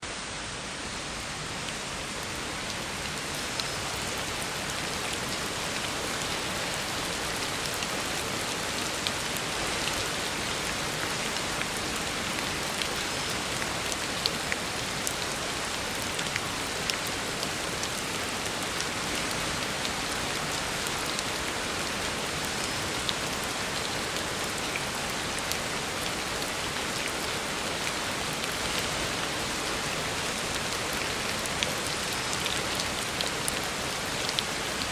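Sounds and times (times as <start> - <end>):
heavy rain on road: 0.1 - 34.9.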